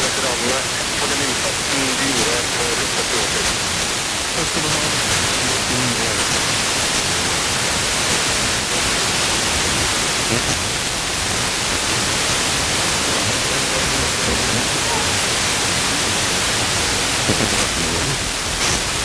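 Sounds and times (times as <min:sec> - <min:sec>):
faint voice under static: 0:00.0 - 0:19.0
radio static hiss: 0:00.0 - 0:19.0.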